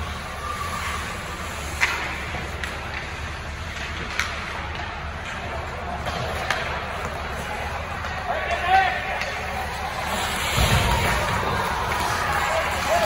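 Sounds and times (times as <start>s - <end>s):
hockey sticks and puck clacking: 0.0s - 13.0s
noisy rink background: 0.0s - 13.0s.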